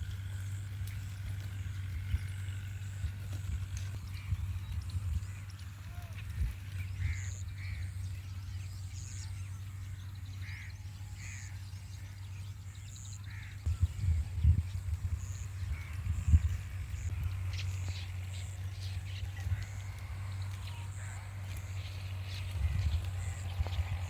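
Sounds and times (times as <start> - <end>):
birds chirping: 0.0 - 24.0
steady low rumble: 0.0 - 24.0.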